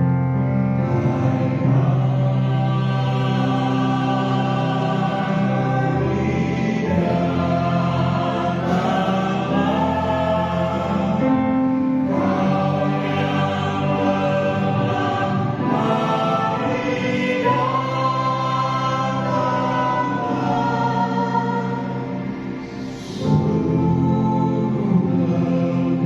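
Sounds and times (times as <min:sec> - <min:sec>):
church choir singing in harmony: 0:00.0 - 0:26.0.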